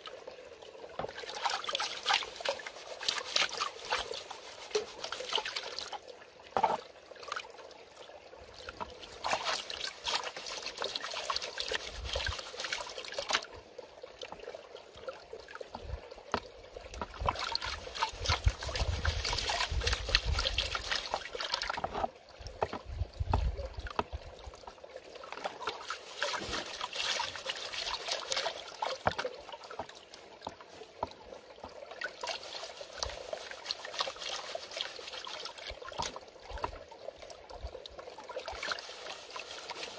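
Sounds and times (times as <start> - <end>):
water sloshing and trickling: 0.0 - 39.9.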